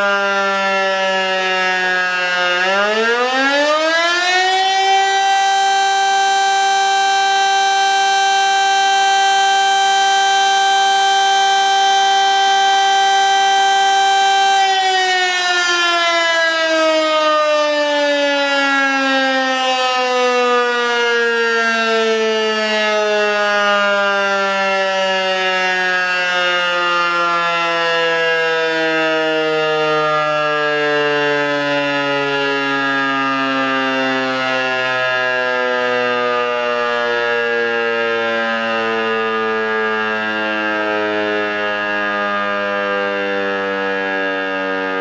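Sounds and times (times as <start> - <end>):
fire siren winding down: 0.0 - 45.0.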